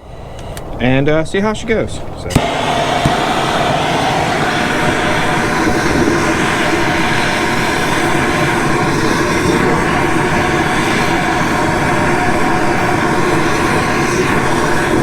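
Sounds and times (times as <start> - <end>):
gas torches rushing: 0.0 - 15.0.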